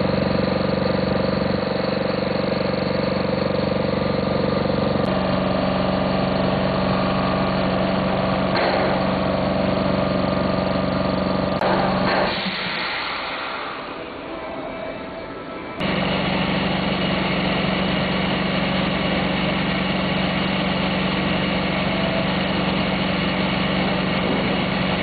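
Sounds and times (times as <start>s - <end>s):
air compressor humming: 0.0s - 25.0s.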